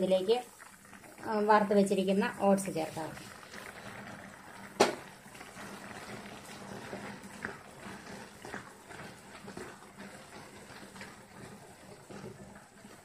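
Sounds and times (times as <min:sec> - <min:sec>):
wooden spatula scraping a pan: 0:02.0 - 0:13.0.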